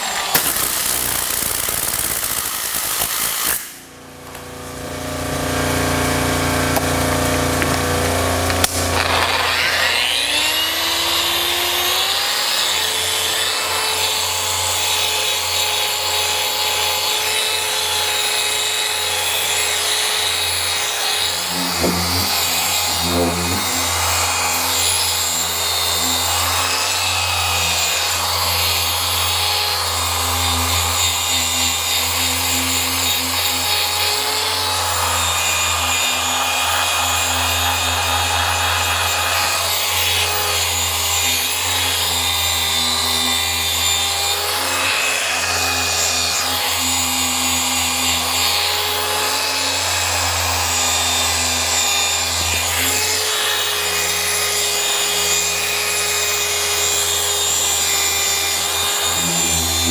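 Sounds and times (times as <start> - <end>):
paint polisher whining: 0.0 - 2.4, 3.0 - 59.9.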